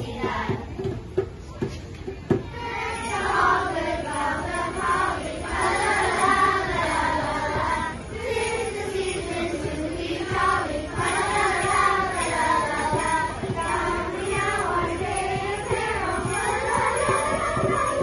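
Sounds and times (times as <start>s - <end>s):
children's choir singing: 0.0s - 1.2s, 2.3s - 18.0s.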